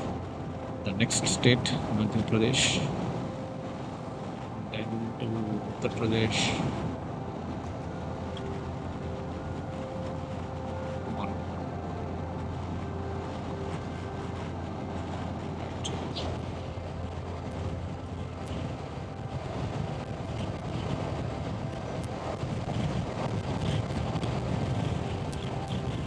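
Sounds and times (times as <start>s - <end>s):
road rumble: 0.0s - 26.0s
wind noise: 0.0s - 26.0s.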